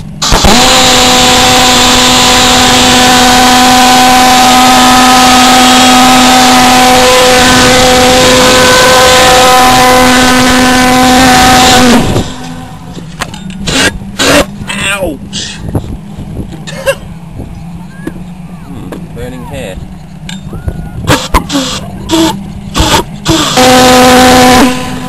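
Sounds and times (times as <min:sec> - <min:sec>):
pulsejet engine buzzing drone: 0:00.0 - 0:25.0.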